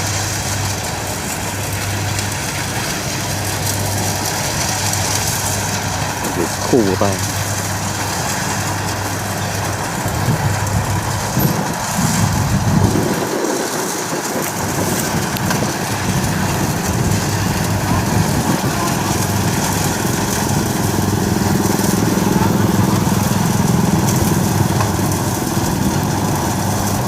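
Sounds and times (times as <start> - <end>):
combine harvester running: 0.0 - 27.0.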